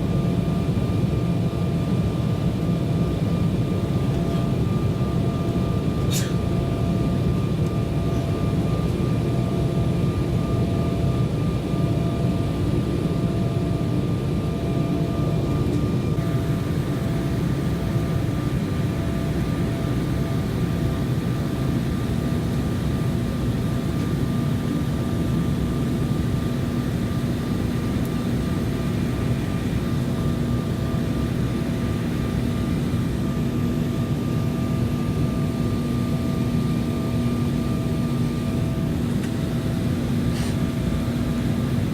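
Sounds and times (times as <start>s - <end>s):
jet engines droning: 0.0s - 41.9s.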